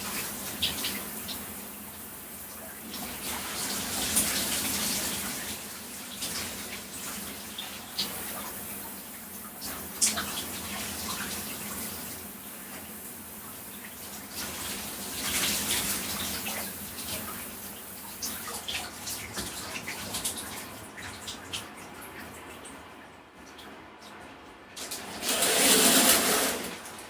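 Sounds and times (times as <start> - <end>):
shower water splashing on body: 0.0 - 27.0.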